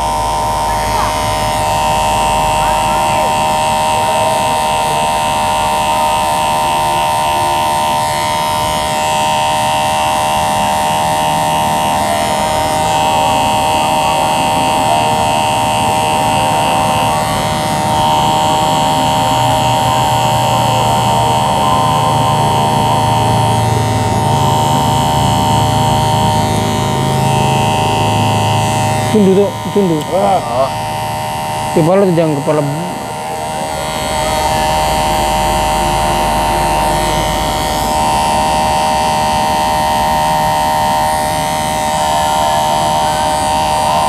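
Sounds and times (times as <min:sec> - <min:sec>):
electric hair clipper buzzing: 0:00.0 - 0:44.0.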